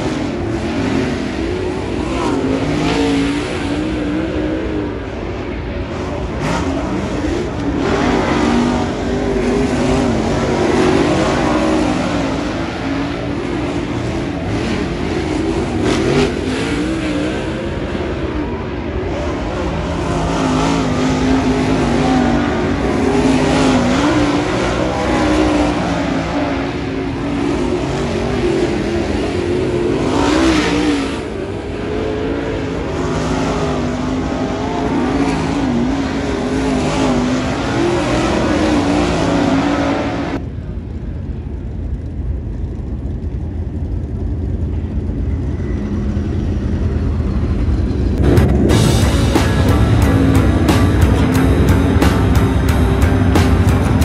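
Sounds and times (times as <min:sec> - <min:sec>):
race car engines: 0:00.0 - 0:54.0.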